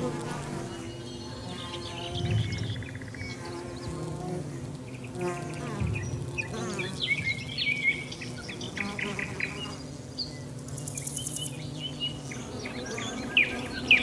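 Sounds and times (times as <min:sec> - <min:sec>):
birds chirping: 0:00.0 - 0:14.0
insect buzzing: 0:00.0 - 0:14.0.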